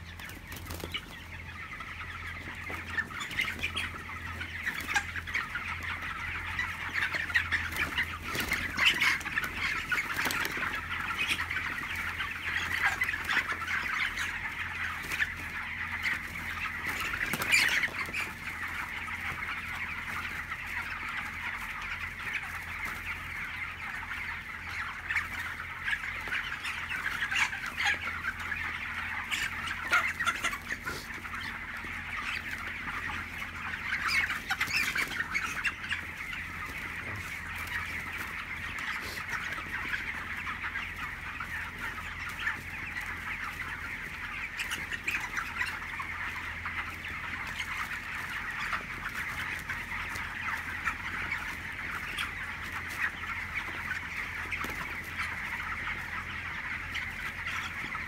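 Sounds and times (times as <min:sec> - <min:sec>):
chickens clucking and cheeping: 0:00.0 - 0:58.0.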